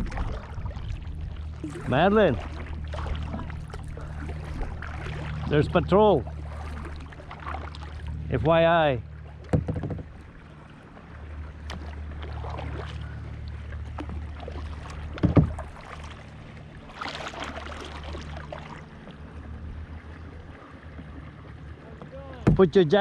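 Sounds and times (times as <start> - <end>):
boat motor humming: 0.0 - 23.0
water splashing: 0.0 - 23.0.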